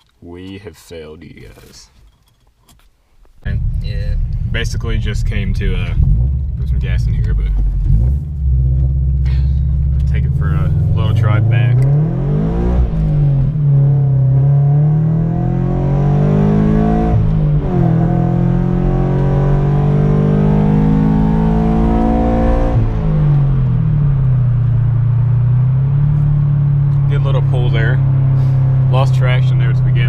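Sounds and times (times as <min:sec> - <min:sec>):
car engine accelerating: 0:03.4 - 0:30.0.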